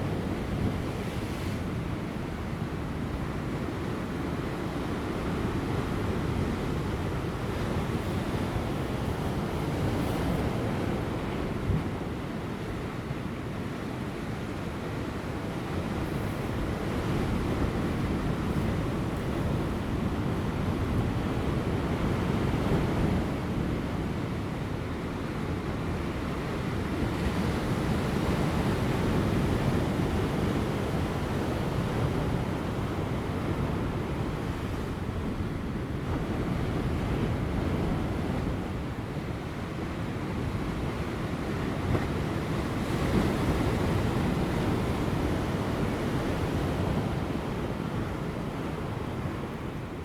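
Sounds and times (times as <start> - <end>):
light wind: 0.0 - 50.0.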